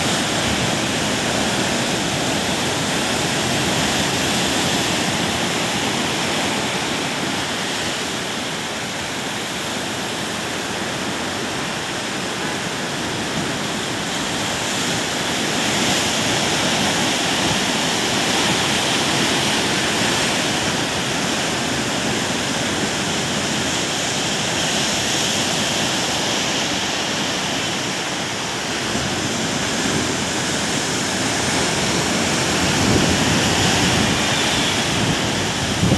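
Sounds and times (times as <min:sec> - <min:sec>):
heavy surf crashing on rocks: 0:00.0 - 0:35.9.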